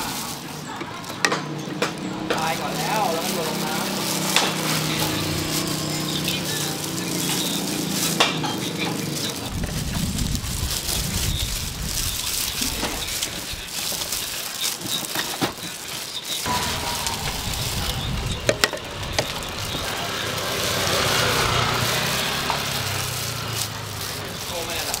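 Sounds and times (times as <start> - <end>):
food sizzling: 0.0 - 25.0.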